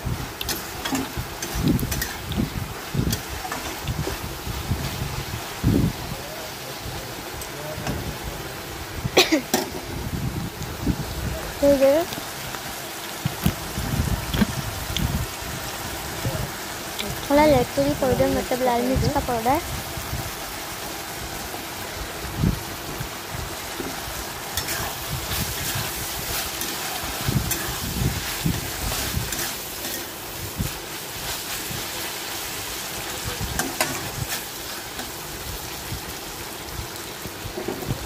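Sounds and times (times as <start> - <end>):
food sizzling in a metal pan: 0.0 - 38.0.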